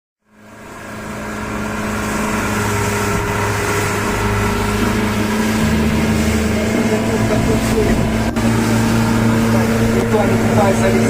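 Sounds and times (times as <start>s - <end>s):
motorboat engine running: 0.2s - 11.0s
water noise: 0.2s - 11.0s
wind noise: 1.3s - 11.0s.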